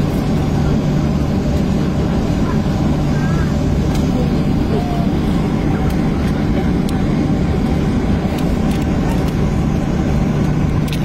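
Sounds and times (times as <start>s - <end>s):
engine drone inside vehicle cabin: 0.0s - 11.0s.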